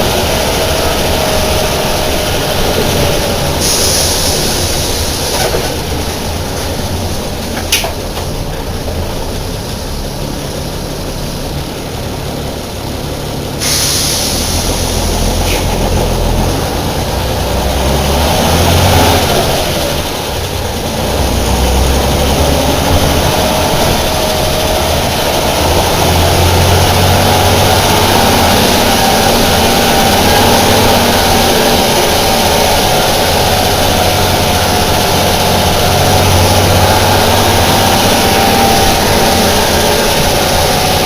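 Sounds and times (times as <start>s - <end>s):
bus diesel engine running: 0.0s - 41.0s.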